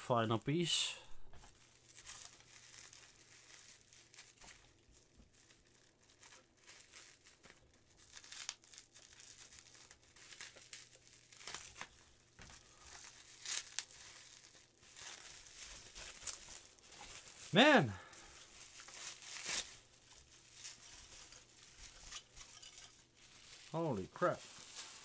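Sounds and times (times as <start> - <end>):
plastic packaging crinkling: 1.3 - 25.0.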